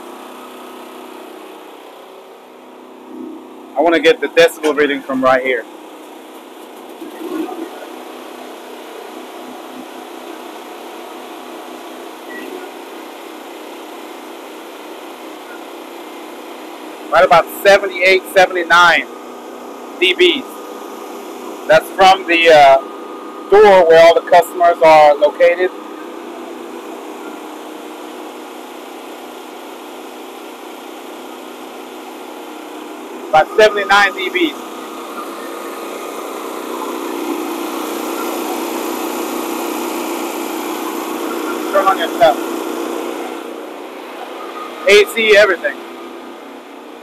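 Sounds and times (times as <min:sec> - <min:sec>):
portable generators droning: 0:00.0 - 0:47.0.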